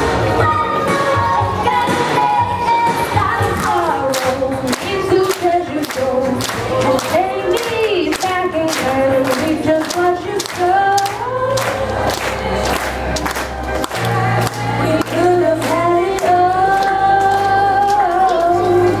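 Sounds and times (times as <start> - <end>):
backing music with steady beat: 0.0 - 19.0
girl singing into a microphone: 0.2 - 11.9, 14.0 - 19.0.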